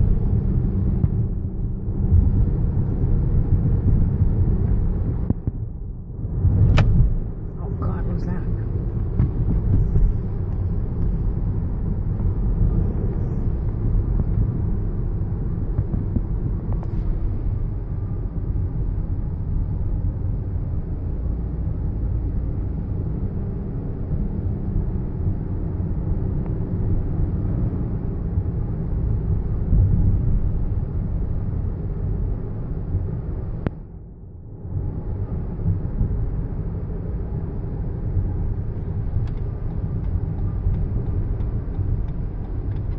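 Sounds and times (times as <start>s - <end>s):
car cabin road and engine rumble: 0.0s - 42.9s.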